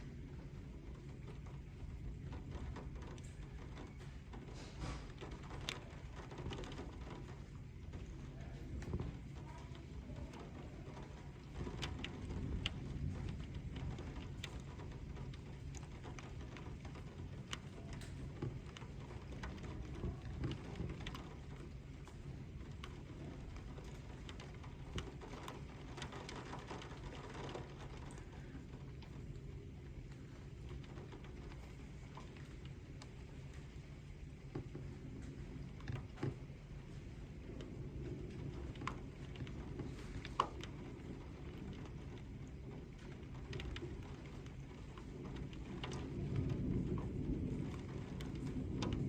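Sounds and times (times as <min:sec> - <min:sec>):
low rumble of thunder: 0:00.0 - 0:49.0
rain hiss: 0:00.0 - 0:49.0
raindrops ticking: 0:00.0 - 0:49.0.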